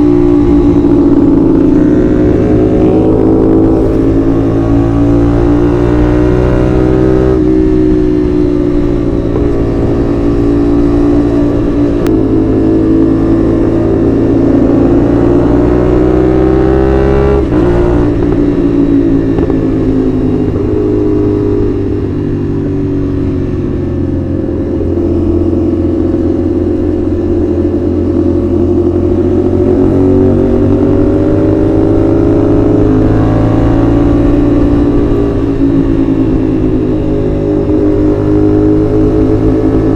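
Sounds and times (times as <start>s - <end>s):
parallel-twin motorcycle engine accelerating: 0.0s - 39.9s.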